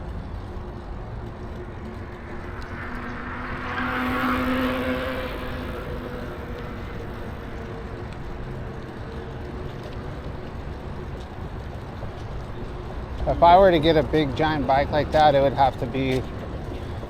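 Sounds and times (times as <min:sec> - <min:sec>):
passing motor vehicle: 0:00.0 - 0:17.0.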